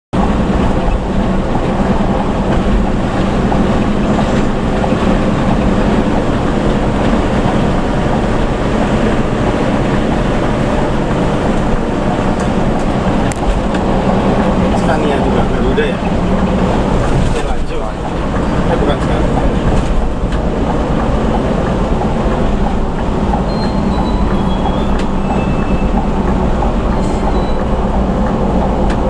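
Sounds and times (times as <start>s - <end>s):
road noise: 0.1s - 29.0s
bus engine drone: 0.2s - 29.0s.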